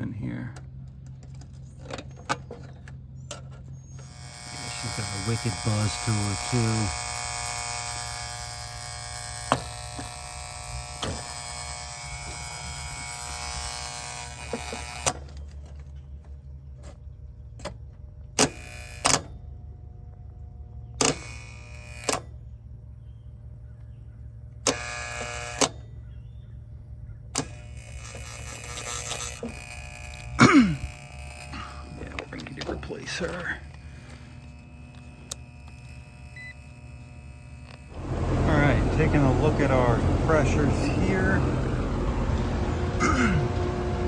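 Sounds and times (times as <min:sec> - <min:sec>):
electrical contactor buzzing: 0:01.0 - 0:16.6, 0:17.6 - 0:23.0, 0:24.4 - 0:44.0.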